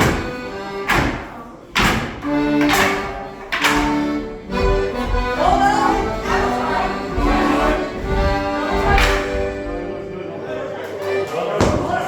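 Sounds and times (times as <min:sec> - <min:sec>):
dancers' percussive strikes: 0:00.0 - 0:09.7
folk dance tune: 0:00.0 - 0:12.0.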